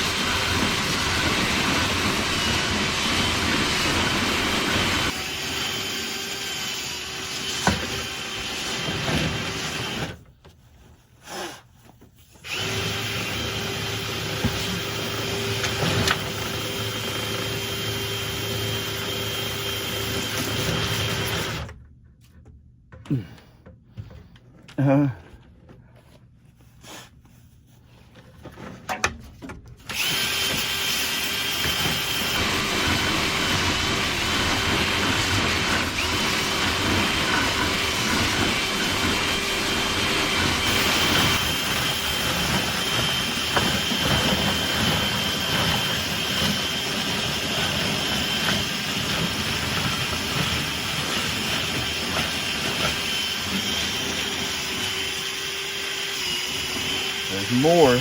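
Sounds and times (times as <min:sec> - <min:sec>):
power drill whining: 0:00.0 - 0:10.2, 0:12.4 - 0:21.7, 0:29.8 - 0:58.0.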